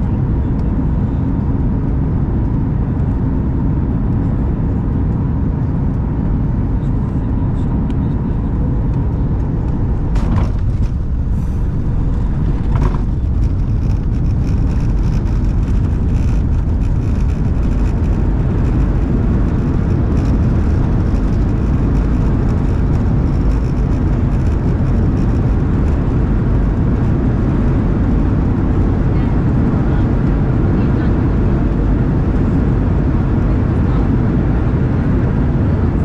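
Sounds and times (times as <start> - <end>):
aircraft engines rumbling in cabin: 0.0 - 36.0.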